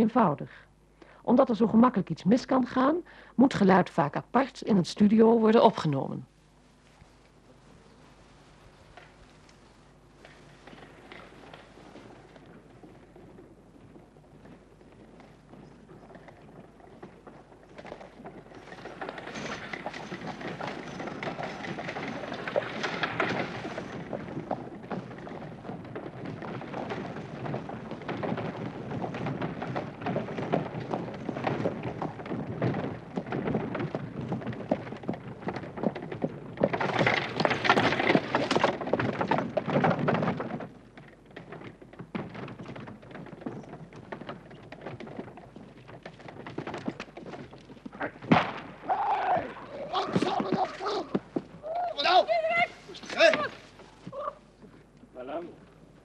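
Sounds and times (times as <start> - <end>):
hooves clip-clopping: 5.0 - 56.0
carriage wheels rattling on dirt: 8.9 - 56.0.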